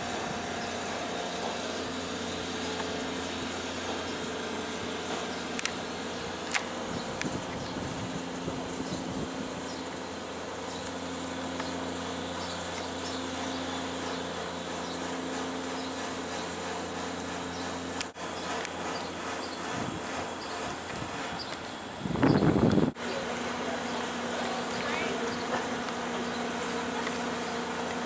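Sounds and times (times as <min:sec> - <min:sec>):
buzzing mechanical hum: 0:00.0 - 0:28.0.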